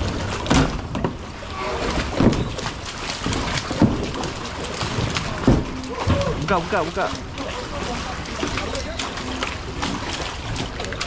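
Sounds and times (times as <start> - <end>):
fish thrashing and water splashing: 0.0 - 11.0.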